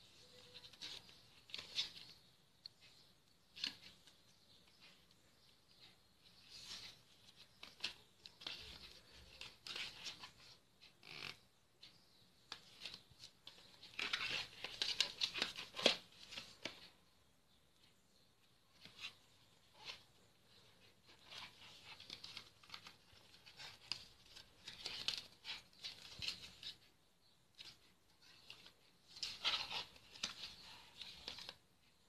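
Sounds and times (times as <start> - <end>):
card pages rustling and turning: 0.0 - 5.1, 5.7 - 16.9, 18.7 - 32.0.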